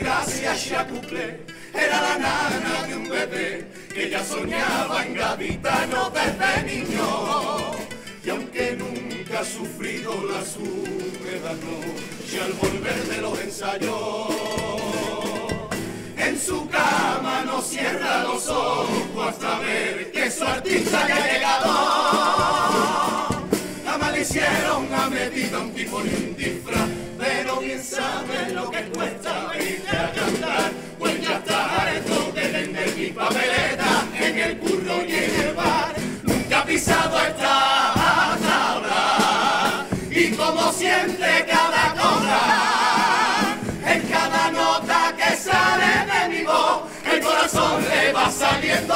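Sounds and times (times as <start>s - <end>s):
chorus singing: 0.0s - 48.9s
rhythmic musical accompaniment: 0.0s - 48.9s.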